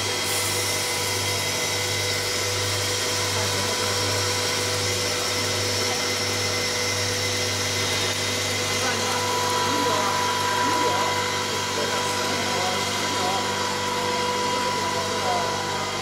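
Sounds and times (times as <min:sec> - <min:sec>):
popcorn machine blower whirring: 0:00.0 - 0:16.0.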